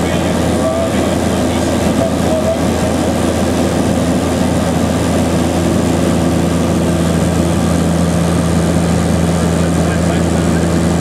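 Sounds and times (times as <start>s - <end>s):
propeller aircraft engines humming: 0.0s - 11.0s.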